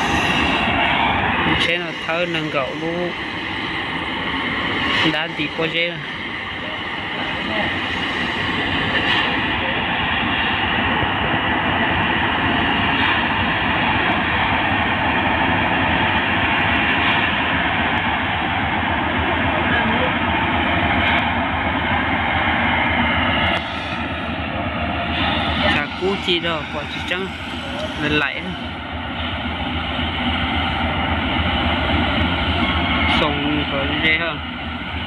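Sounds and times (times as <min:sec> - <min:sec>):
locomotive engine rumble: 0:00.0 - 0:35.0
train wheels on rail: 0:00.0 - 0:35.0.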